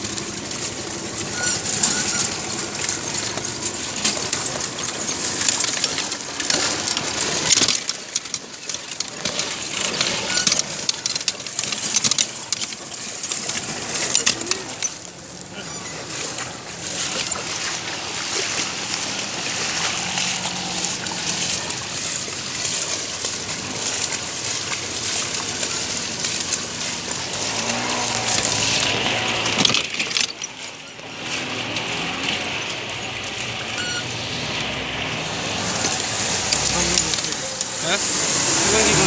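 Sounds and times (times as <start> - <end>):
small engine running: 0.0 - 39.0
splashing through shallow water: 0.0 - 39.0.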